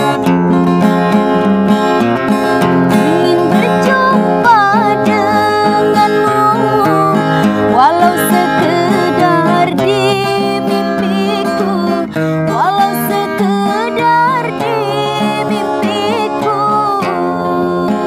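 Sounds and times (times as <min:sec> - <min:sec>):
acoustic guitar: 0:00.0 - 0:18.0
woman singing a ballad: 0:02.9 - 0:18.0.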